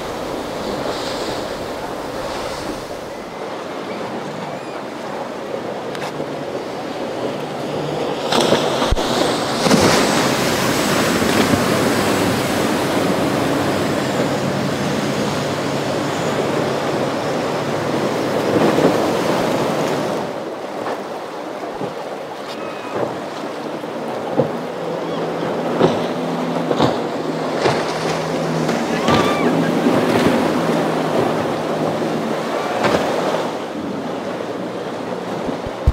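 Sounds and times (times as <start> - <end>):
wind on microphone: 0.0 - 20.6, 21.6 - 35.9
boat engines droning: 0.0 - 35.9
rushing water and surf: 0.0 - 35.9.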